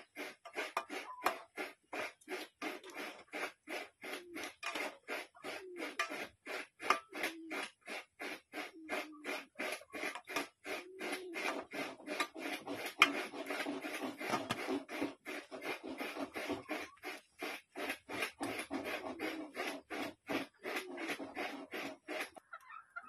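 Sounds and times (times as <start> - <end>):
rhythmic rasping strokes: 0.0 - 22.6.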